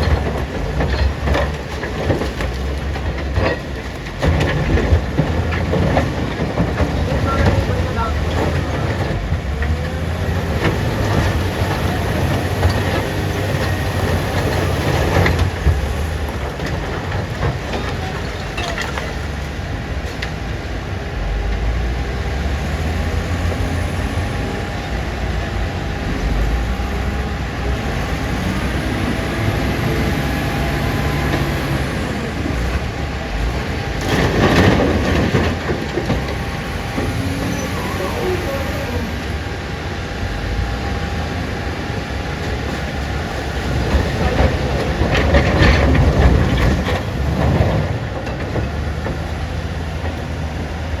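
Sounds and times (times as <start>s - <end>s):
diesel engine under load: 0.0s - 51.0s.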